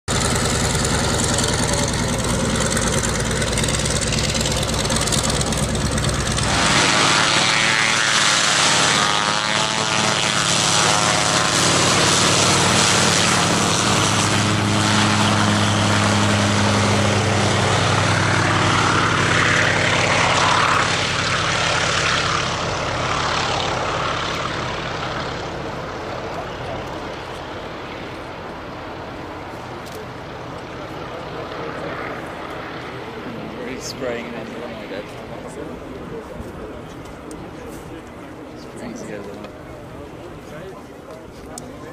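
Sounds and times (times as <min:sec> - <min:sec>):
aircraft engine and propeller: 0:00.1 - 0:41.9.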